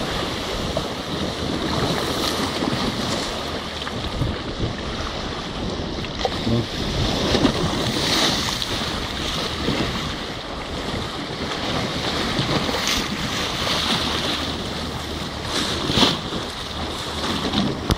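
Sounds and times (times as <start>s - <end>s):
water rushing: 0.0s - 17.9s
wind buffeting microphone: 0.0s - 17.9s.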